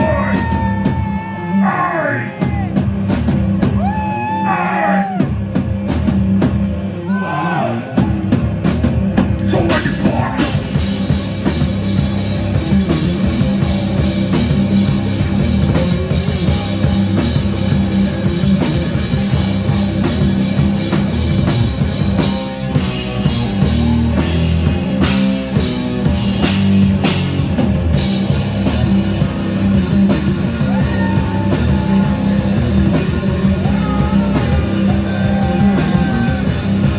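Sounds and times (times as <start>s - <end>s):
drum kit: 0.0s - 1.4s, 2.3s - 36.9s
electric guitar: 2.5s - 36.9s.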